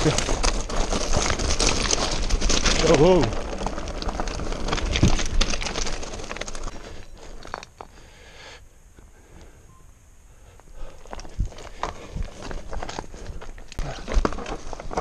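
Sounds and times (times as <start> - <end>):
bike rattling: 0.0 - 7.9, 10.8 - 15.0
tyres crunching over stones: 0.0 - 8.0, 10.6 - 15.0.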